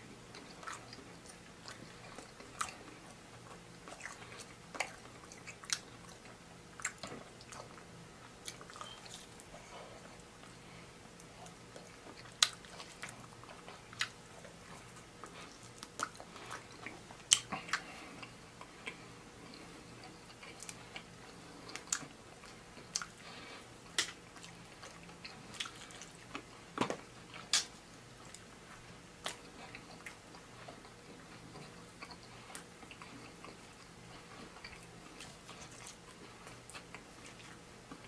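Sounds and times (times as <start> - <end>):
chewing and biting food: 0.3 - 10.6, 11.2 - 38.0.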